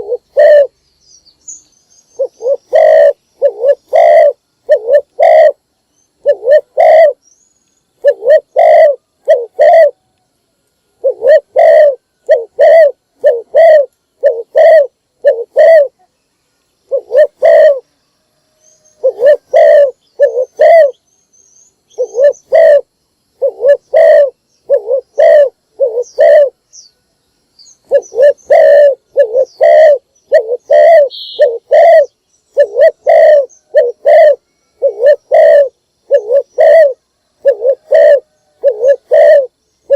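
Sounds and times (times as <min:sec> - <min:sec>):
dove cooing: 0:00.0 - 0:00.8, 0:02.2 - 0:05.6, 0:06.2 - 0:07.2, 0:08.0 - 0:10.1, 0:11.0 - 0:16.1, 0:16.9 - 0:17.9, 0:18.9 - 0:21.0, 0:21.9 - 0:26.6, 0:27.8 - 0:39.9.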